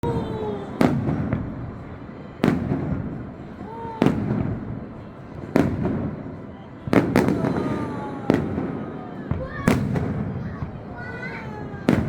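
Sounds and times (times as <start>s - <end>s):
fireworks bangs with rolling echo: 0.0s - 12.0s.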